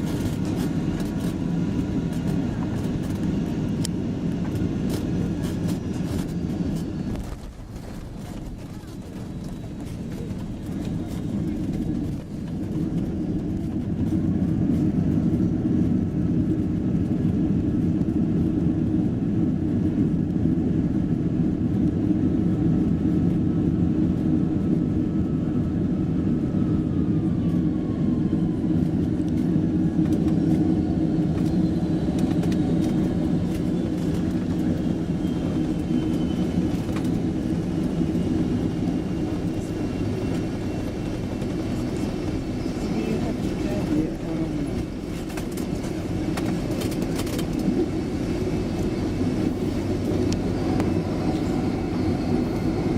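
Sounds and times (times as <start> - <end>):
aircraft cabin rumble: 0.0 - 52.9.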